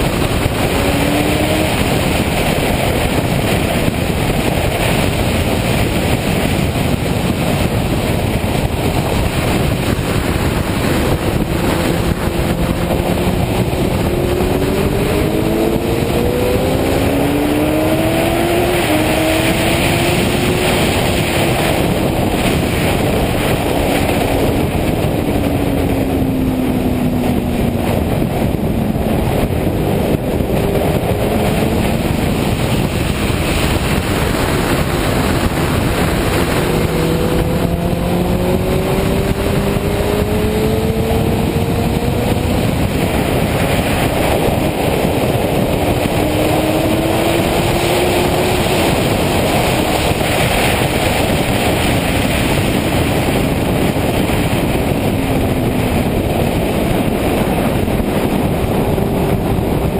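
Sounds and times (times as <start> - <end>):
motorcycle engine upshifting: 0.0 - 59.9
wind rush on microphone: 0.0 - 59.9.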